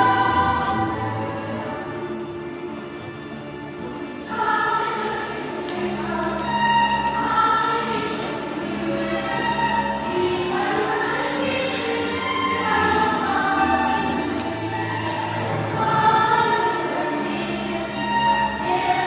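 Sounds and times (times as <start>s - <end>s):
choral singing music: 0.0s - 19.0s.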